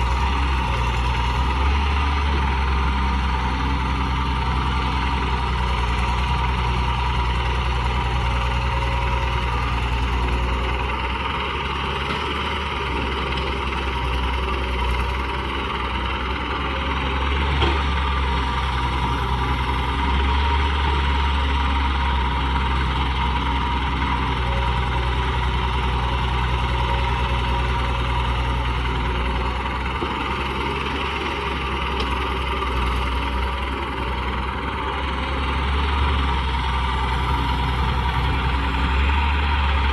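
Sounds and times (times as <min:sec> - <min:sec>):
toy excavator engine drone: 0:00.0 - 0:39.9.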